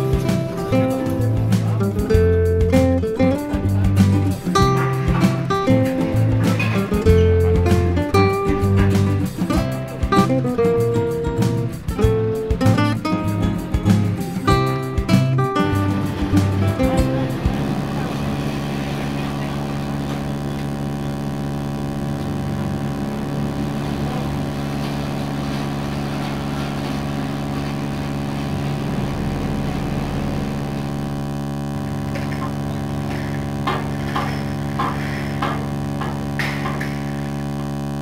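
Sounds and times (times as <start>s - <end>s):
forklift engine idling: 0.0s - 38.0s.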